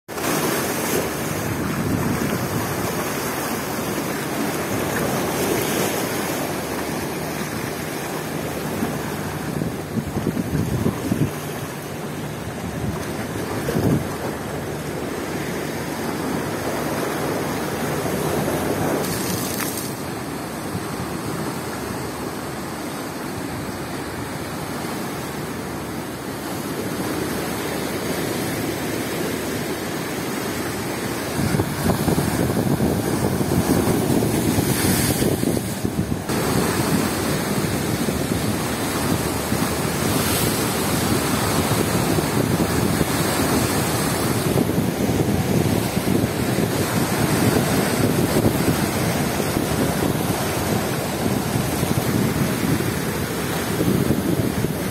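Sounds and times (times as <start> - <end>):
surf breaking on seawall: 0.1 - 22.3, 26.4 - 54.9
wind buffeting microphone: 0.2 - 22.0, 30.4 - 54.9.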